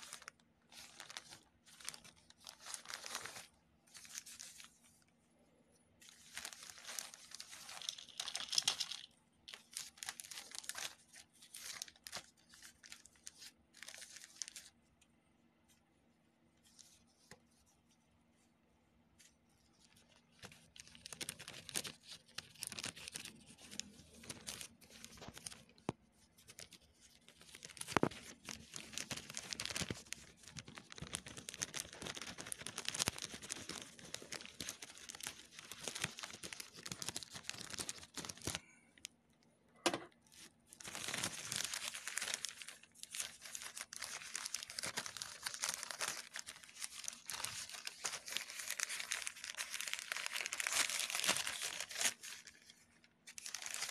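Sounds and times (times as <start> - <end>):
plastic bags crinkling and tearing: 0.0 - 4.9, 6.0 - 14.8, 20.0 - 39.1, 40.2 - 53.9.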